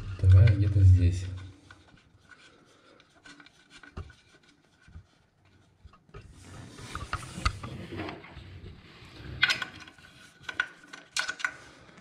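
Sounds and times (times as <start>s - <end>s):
rubbing and scraping: 0.0s - 11.9s.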